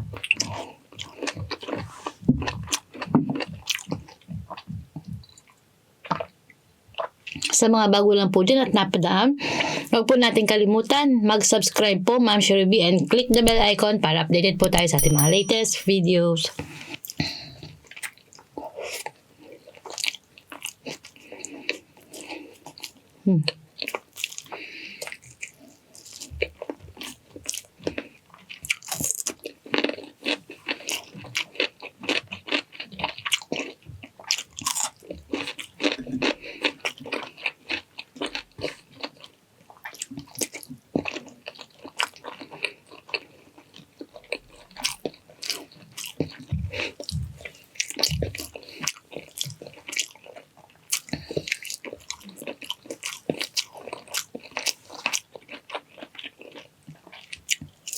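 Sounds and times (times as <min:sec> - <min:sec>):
chewing and crunching: 0:00.0 - 0:07.6, 0:17.0 - 0:57.9.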